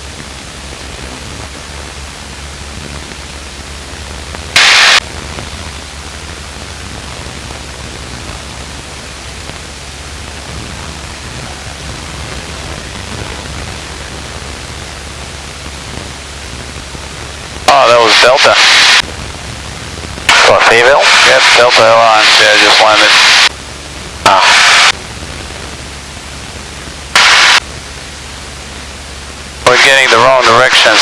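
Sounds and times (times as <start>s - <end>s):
aircraft engine drone: 0.0s - 31.0s
loud burst of static: 0.0s - 31.0s
radio static hiss: 0.0s - 31.0s.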